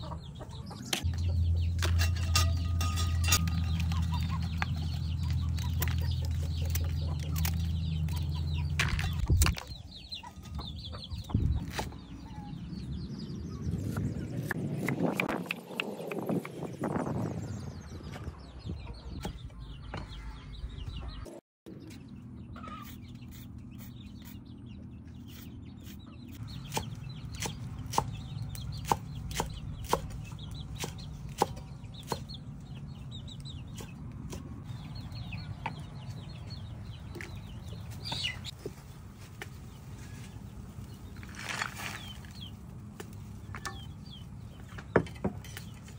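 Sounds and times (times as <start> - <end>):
chickens clucking: 0.0 - 12.6, 18.2 - 45.9.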